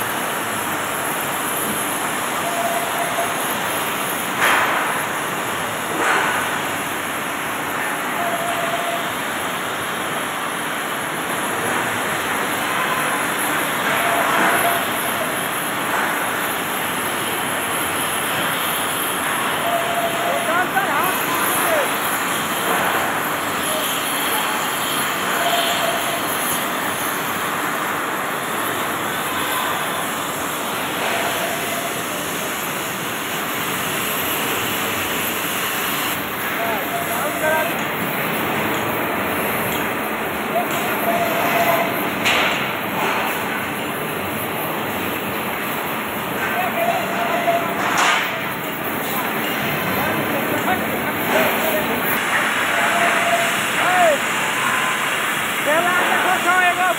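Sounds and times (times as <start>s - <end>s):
gas cutting torch hissing: 0.0s - 56.9s.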